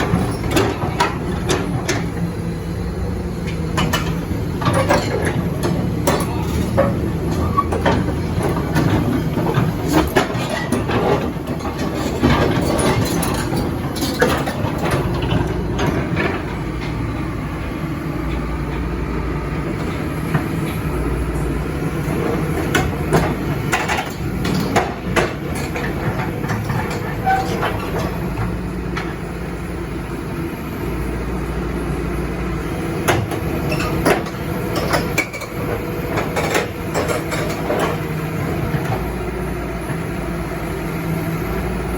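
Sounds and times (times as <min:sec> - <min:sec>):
metallic clanks of steel tracks: 0:00.0 - 0:30.5, 0:32.6 - 0:40.8
excavator diesel engine running: 0:00.0 - 0:41.9.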